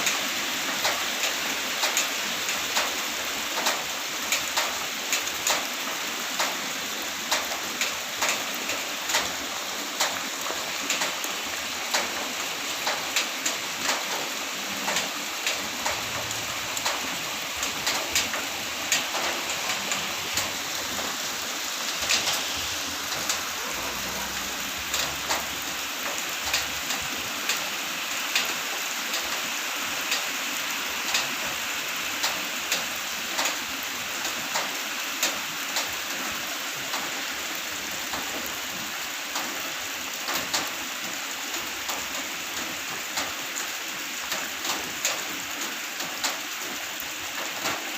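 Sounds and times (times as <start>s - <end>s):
raindrops tapping a surface: 0.0s - 47.9s
steady rain falling: 0.0s - 47.9s.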